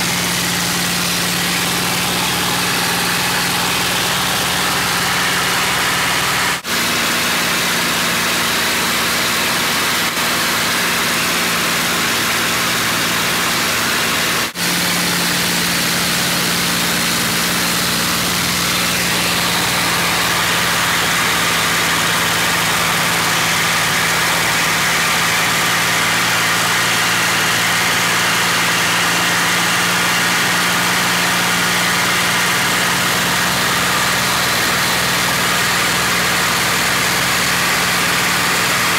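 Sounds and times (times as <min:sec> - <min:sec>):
aircraft engine droning: 0:00.0 - 0:10.8, 0:14.6 - 0:38.9.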